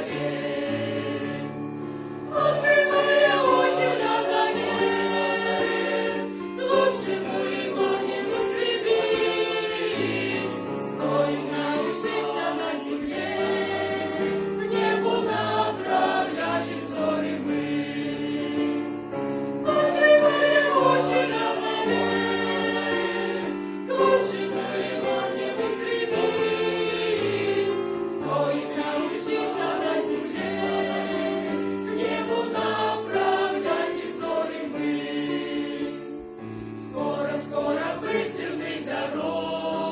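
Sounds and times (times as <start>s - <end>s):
church choir singing in harmony: 0.0s - 39.9s.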